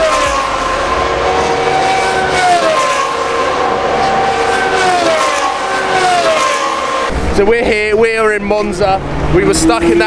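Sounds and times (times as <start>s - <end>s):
race cars passing: 0.0s - 10.0s.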